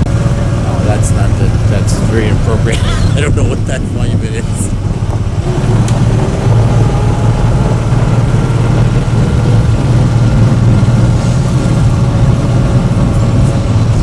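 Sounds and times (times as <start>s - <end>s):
tractor engine humming: 0.0s - 14.0s.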